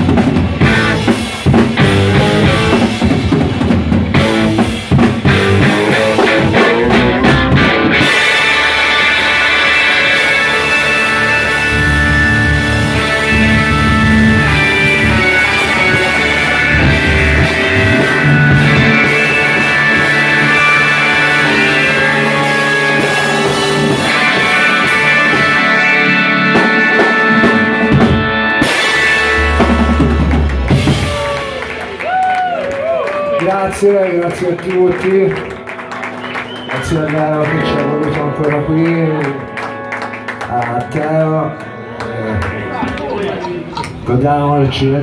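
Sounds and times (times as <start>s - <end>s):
live rock band playing: 0.0s - 44.2s.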